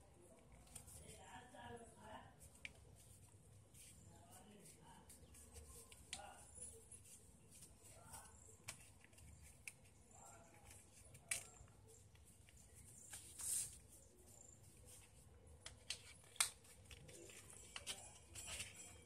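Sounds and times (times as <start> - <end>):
paper crinkling and rustling: 2.4 - 19.0.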